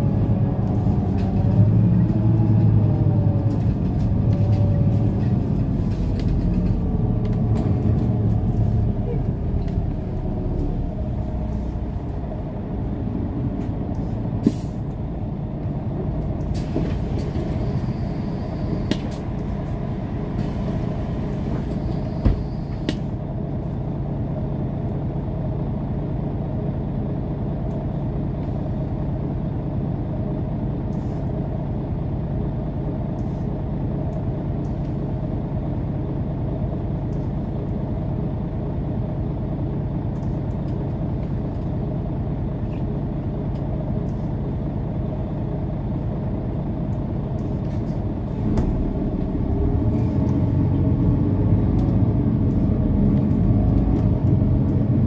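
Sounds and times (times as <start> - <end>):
bus engine and road drone: 0.0 - 55.0.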